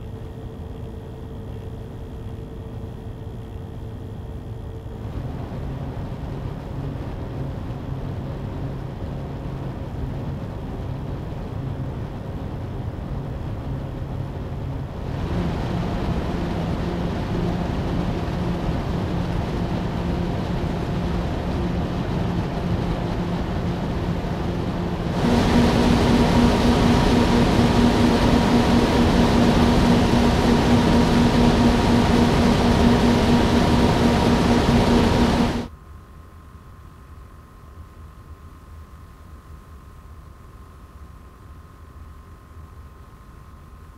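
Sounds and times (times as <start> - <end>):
computer fans whirring: 0.0 - 43.9
faint hum: 0.0 - 43.9.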